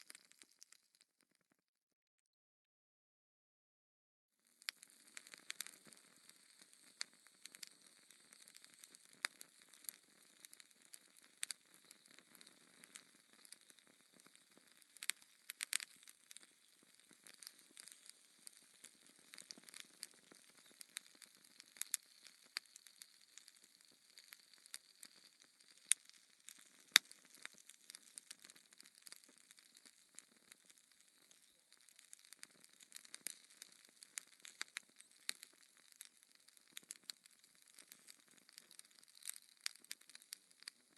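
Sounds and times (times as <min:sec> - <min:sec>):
fire crackling in a fireplace: 0:00.0 - 0:01.2, 0:04.4 - 0:40.9.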